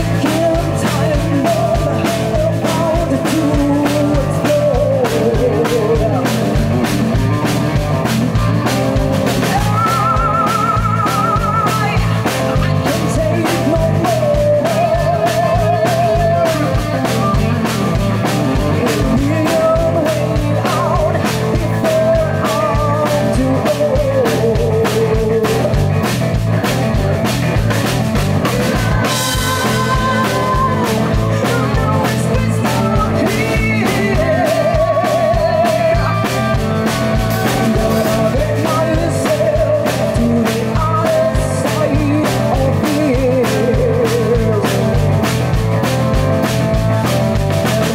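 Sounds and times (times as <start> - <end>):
lead vocal singing: 0.0 - 7.0, 8.7 - 25.8, 28.4 - 45.1
live rock band playing: 0.0 - 47.9.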